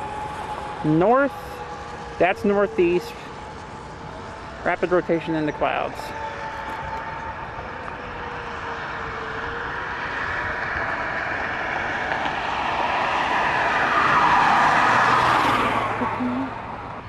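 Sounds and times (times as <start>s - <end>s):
vehicle approaching on road: 0.0s - 17.0s.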